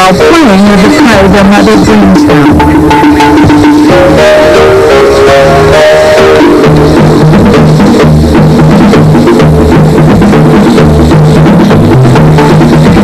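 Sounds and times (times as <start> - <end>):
drum kit steady beat: 0.0 - 13.0
low bass notes: 0.0 - 13.0.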